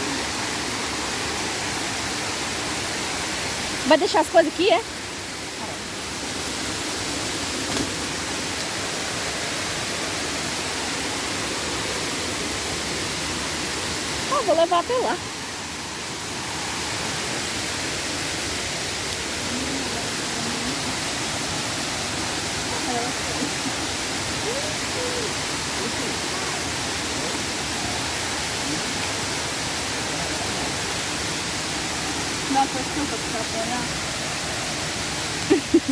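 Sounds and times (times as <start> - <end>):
waterfall rushing over rocks: 0.0 - 35.9.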